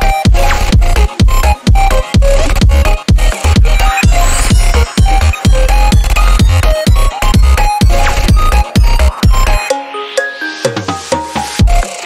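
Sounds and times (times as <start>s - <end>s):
electronic music with bass beat: 0.0s - 12.0s.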